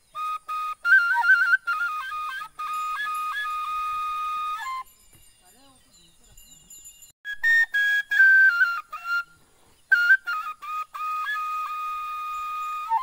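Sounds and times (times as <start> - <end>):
bamboo flute playing: 0.0 - 5.0, 7.2 - 13.0.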